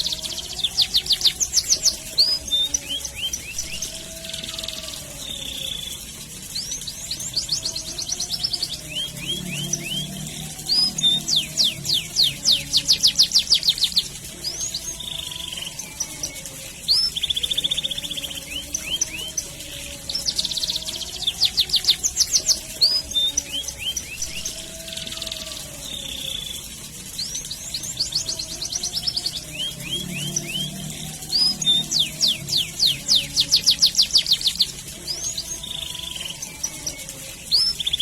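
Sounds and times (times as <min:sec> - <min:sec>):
canary singing trills: 0:00.0 - 0:38.0.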